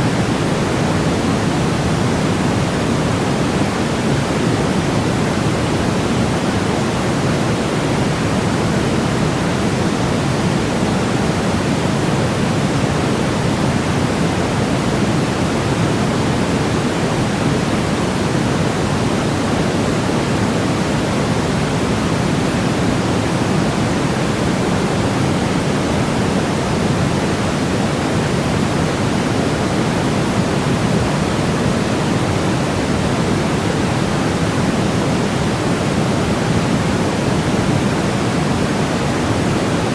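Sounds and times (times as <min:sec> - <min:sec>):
low pink noise hiss: 0:00.0 - 0:39.9.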